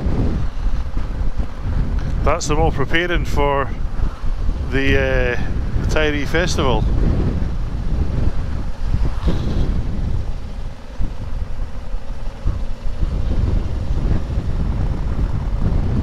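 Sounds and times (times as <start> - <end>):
motorcycle engine rumble: 0.0 - 16.0
wind buffeting microphone: 0.0 - 16.0.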